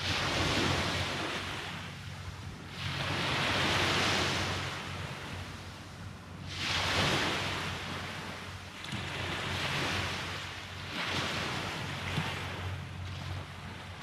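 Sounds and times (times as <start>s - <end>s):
sea waves breaking on beach: 0.0s - 5.7s, 6.4s - 14.0s
low steady rumble: 0.0s - 14.0s.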